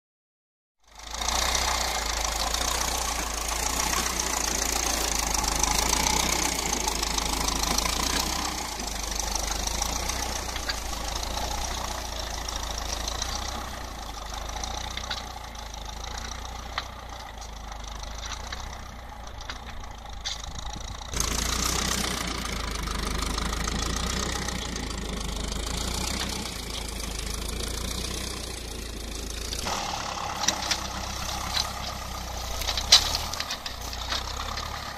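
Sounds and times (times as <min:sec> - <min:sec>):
tractor diesel engine running: 0:00.8 - 0:34.9.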